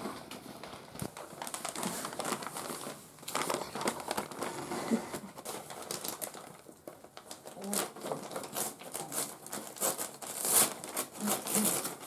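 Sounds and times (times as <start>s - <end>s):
wrapping paper crinkling: 0.1s - 12.0s.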